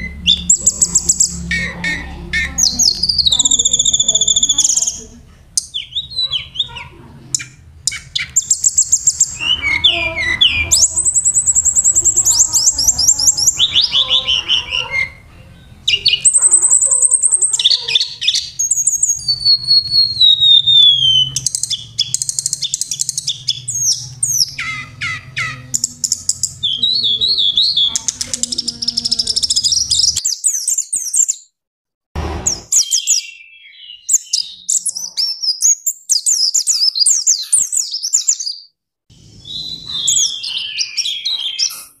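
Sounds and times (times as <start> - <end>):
songbird trills and whistles: 0.0 - 5.0, 5.6 - 15.3, 15.9 - 31.4, 32.7 - 38.7, 39.4 - 42.0.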